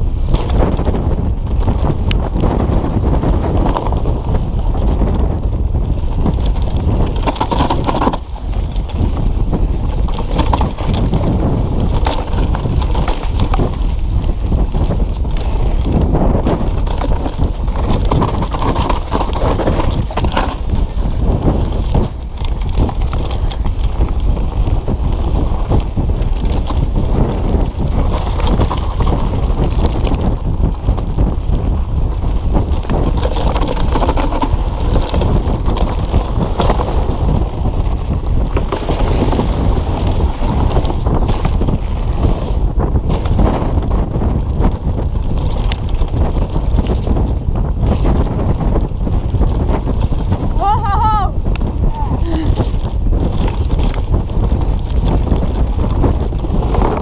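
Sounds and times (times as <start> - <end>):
bike rattling over bumps: 0.0 - 57.0
wind rumble on microphone: 0.0 - 57.0.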